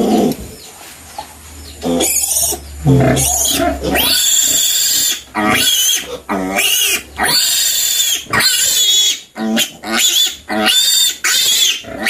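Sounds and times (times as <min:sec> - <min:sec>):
piglet squealing: 0:01.8 - 0:12.0.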